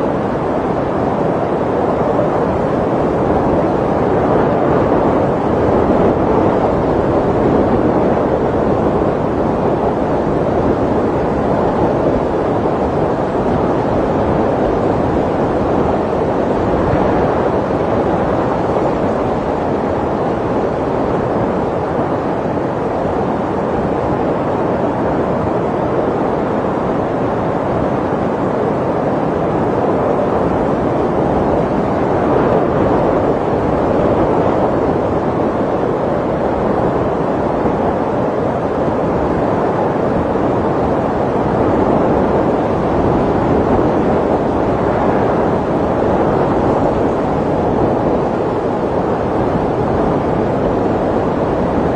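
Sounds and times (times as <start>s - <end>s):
snowstorm wind rushing: 0.0s - 51.9s.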